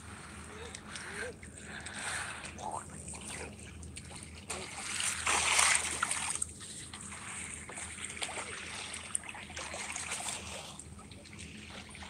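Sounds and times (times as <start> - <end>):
water trickling and lapping: 0.0 - 12.0.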